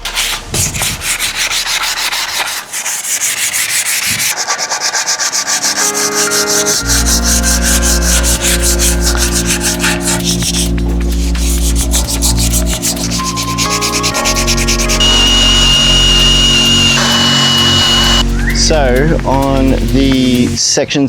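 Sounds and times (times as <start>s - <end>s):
sanding block rubbing on metal: 0.0s - 20.5s.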